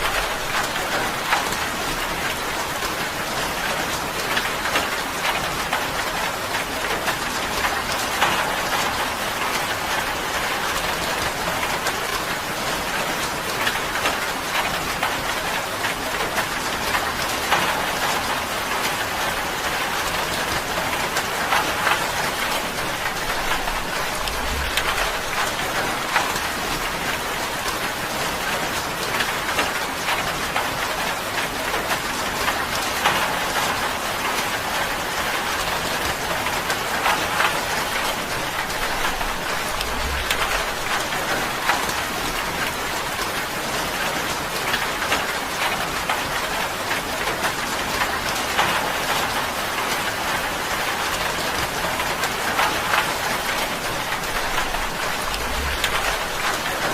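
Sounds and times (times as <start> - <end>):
rain on a tin roof: 0.0 - 56.9.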